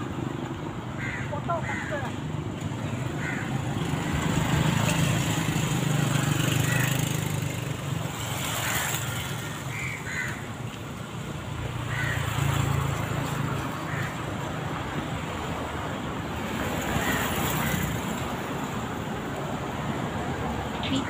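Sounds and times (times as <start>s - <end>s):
passing vehicles engine rumble: 0.0s - 21.0s.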